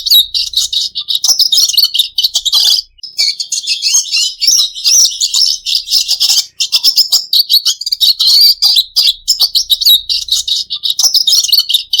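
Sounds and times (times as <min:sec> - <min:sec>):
bird twittering and trilling: 0:00.0 - 0:12.0.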